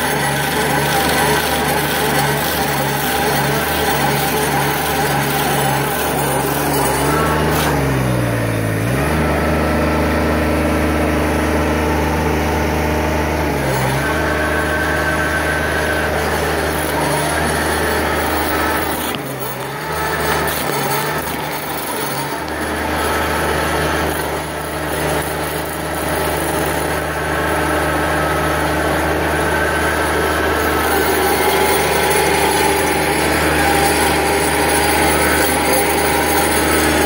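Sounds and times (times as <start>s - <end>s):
engine running under load: 0.0s - 37.0s
stump grinder cutting wood: 0.0s - 37.0s.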